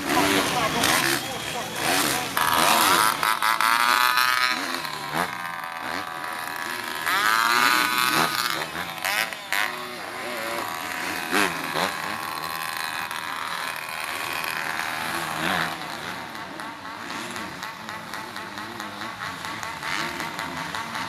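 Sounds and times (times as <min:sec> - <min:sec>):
motocross bikes revving past: 0:00.0 - 0:21.0.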